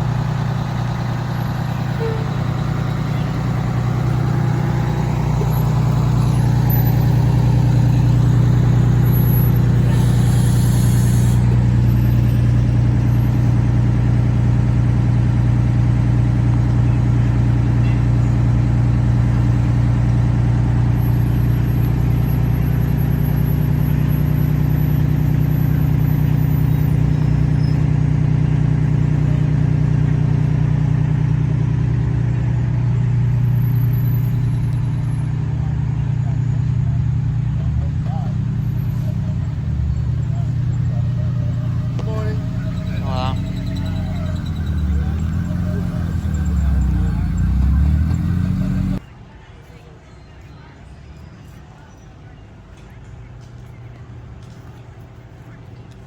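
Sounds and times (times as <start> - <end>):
diesel engine drone: 0.0 - 49.0.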